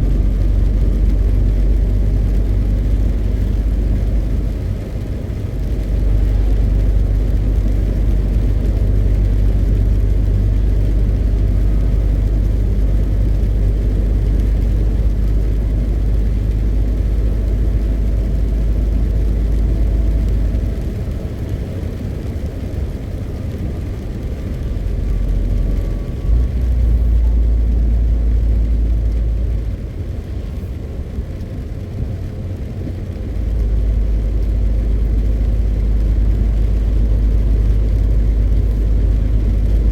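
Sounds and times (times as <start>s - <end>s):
truck diesel engine droning: 0.0s - 39.9s
tyre and road noise: 0.0s - 39.9s.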